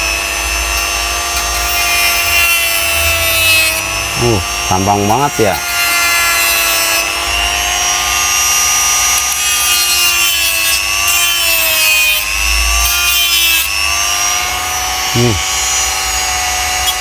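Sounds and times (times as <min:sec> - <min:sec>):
die grinder cutting plastic pipe: 0:00.0 - 0:17.0.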